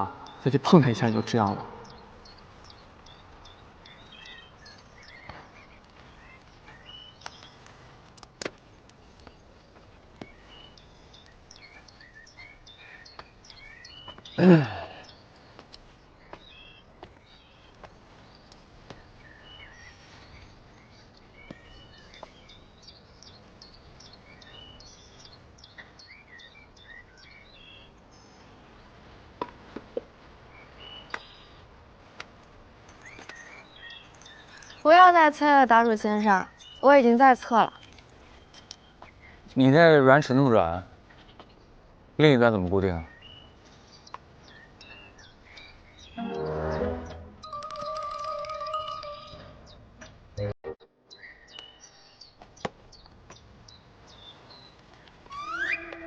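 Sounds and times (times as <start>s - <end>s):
small birds chirping: 0.0s - 29.0s, 30.4s - 46.3s, 51.1s - 56.0s.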